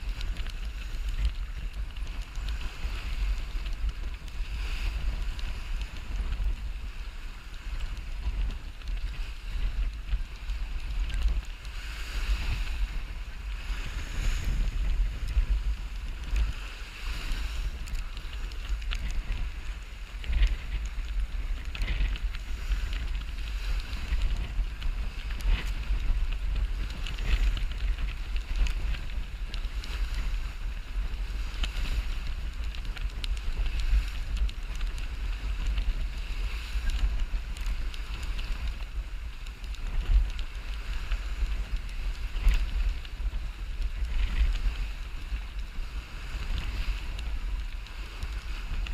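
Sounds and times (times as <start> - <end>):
water rushing along hull: 0.0 - 48.9
wind buffeting microphone: 0.0 - 48.9.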